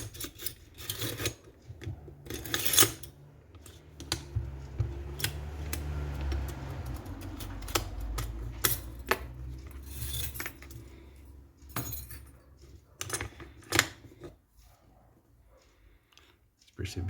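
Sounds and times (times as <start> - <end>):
metal parts and tools clinking: 0.0 - 14.4.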